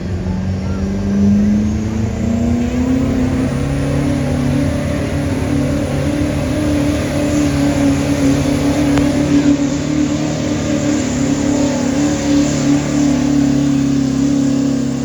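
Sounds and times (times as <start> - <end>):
pickup truck engine under load: 0.0 - 15.0.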